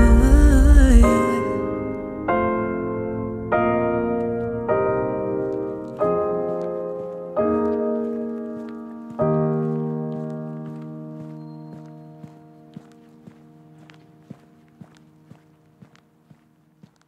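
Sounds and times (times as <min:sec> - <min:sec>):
piano chords ringing: 0:00.0 - 0:16.2.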